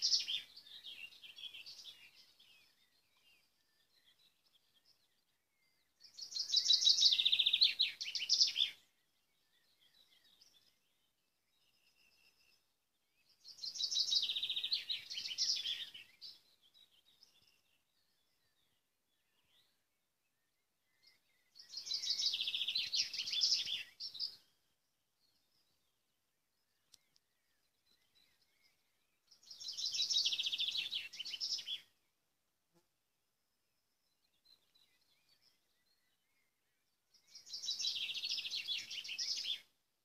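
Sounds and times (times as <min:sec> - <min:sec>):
faint chirps: 0:00.0 - 0:32.8, 0:33.6 - 0:39.8.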